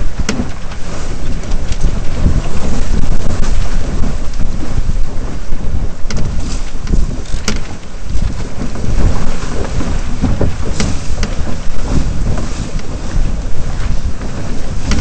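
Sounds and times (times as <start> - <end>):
water rushing past hull: 0.0 - 15.0
wind buffeting microphone: 0.0 - 15.0.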